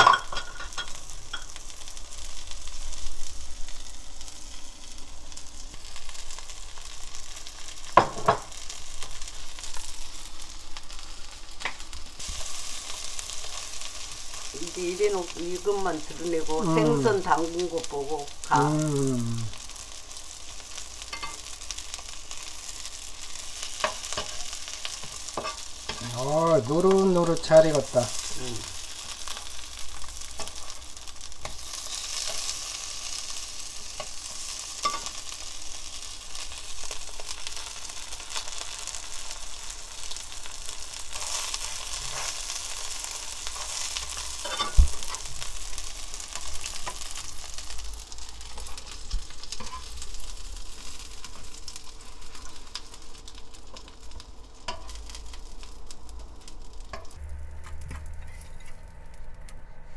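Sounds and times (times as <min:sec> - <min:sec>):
fish fillets sizzling in oil: 0:00.0 - 0:57.2.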